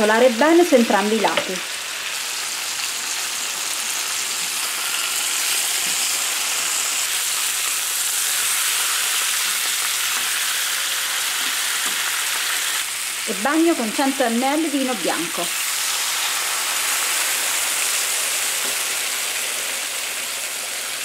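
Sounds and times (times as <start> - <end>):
chicken sizzling in frying pan: 0.0 - 21.0.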